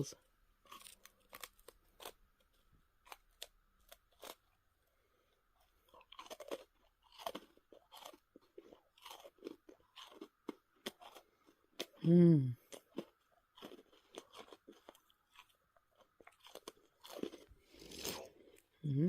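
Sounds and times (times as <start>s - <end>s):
cookie crunching and chewing: 0.6s - 19.0s.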